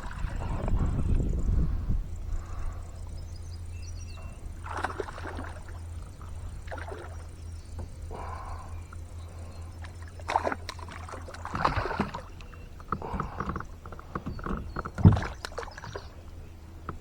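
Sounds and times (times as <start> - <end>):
steady low hum: 0.0 - 17.0
water splashing beside a boat: 0.0 - 17.0.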